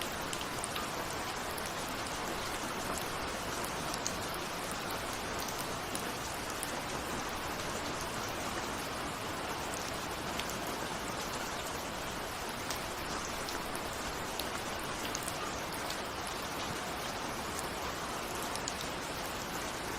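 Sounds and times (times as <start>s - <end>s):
steady rainfall: 0.0s - 19.9s.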